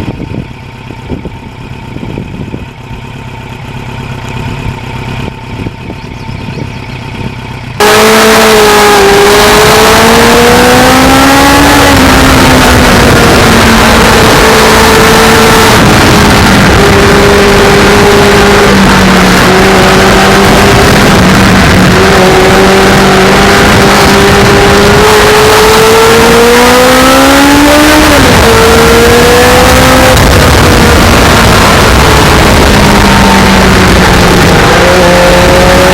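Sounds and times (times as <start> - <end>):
wind noise on microphone: 0.0 - 3.2, 4.4 - 35.9
motorcycle engine running: 0.0 - 35.9.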